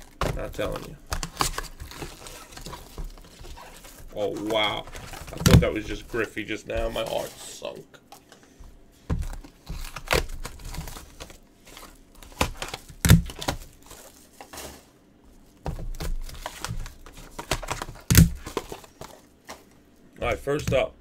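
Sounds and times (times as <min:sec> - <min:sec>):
plastic and paper crinkling: 0:00.0 - 0:08.4, 0:09.1 - 0:19.9.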